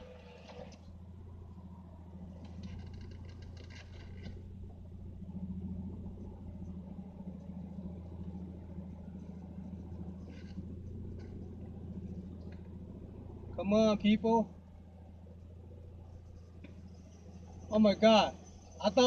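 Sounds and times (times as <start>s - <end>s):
car engine humming: 0.0s - 19.0s
road rumble: 0.0s - 19.0s.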